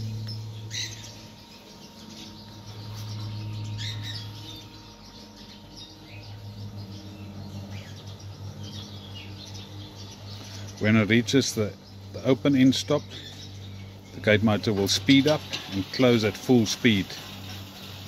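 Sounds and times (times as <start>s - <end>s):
birds chirping: 0.0s - 18.0s
gate motor humming: 0.0s - 18.0s.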